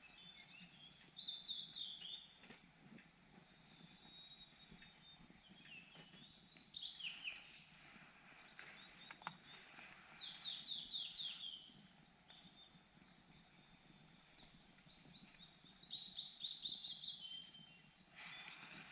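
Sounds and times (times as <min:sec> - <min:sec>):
small bird chirping: 0:00.0 - 0:18.9.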